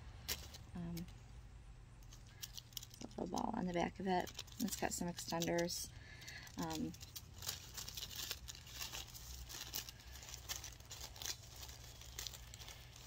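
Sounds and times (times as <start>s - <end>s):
tissue paper crinkling: 2.0s - 13.0s.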